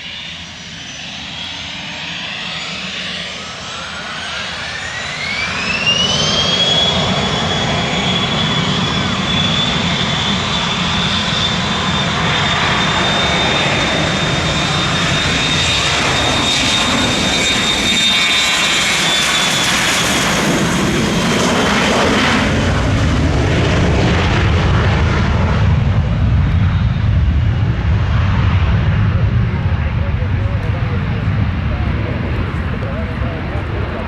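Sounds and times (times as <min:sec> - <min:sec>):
jet high whine: 0:00.0 - 0:34.0
jet deep roar: 0:01.1 - 0:34.0.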